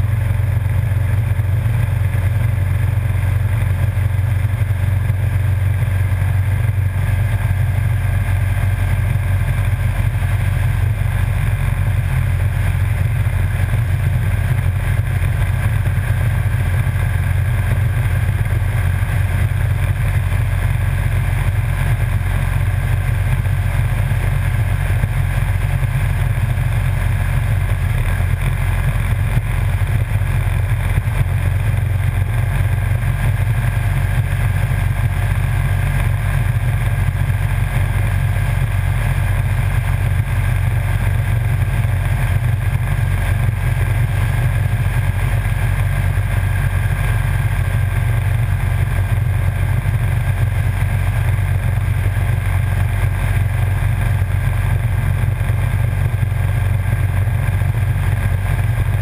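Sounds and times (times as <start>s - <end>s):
motorcycle engine droning: 0.0s - 59.0s
wind and road noise: 0.0s - 59.0s.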